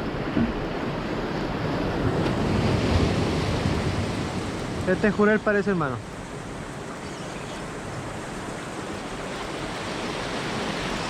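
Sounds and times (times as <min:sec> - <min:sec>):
sea surf: 0:00.0 - 0:11.0.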